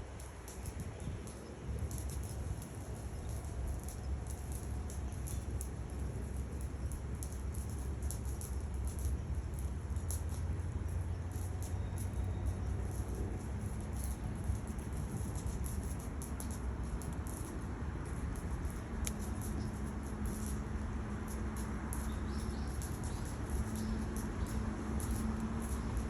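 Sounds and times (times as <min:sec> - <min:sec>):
wood fire crackling and popping: 0:00.1 - 0:26.0.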